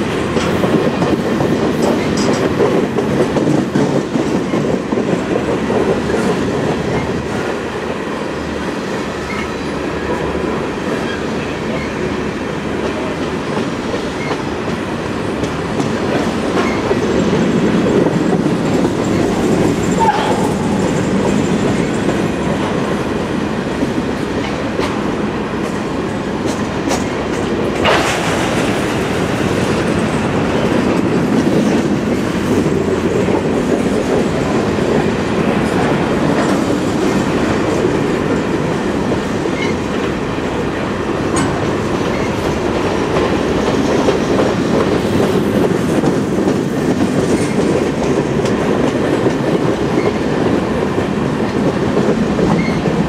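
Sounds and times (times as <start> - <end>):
freight train wheels rumbling: 0.0 - 53.0.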